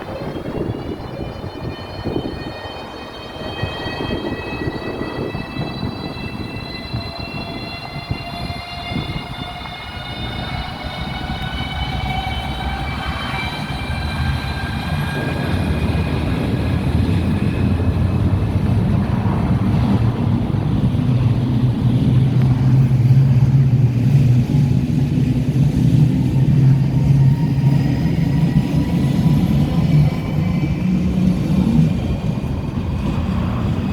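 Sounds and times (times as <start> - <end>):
electric train drive whining: 0.0 - 33.9
low rail rumble: 0.0 - 33.9.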